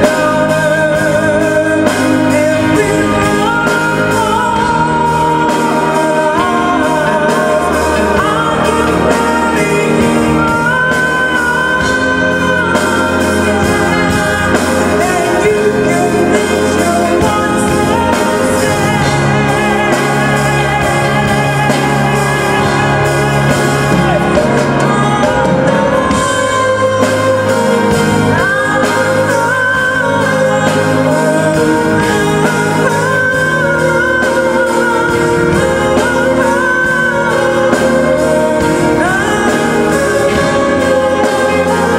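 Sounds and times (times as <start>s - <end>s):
live band accompaniment: 0.0s - 41.9s
woman singing with vibrato: 0.0s - 41.9s.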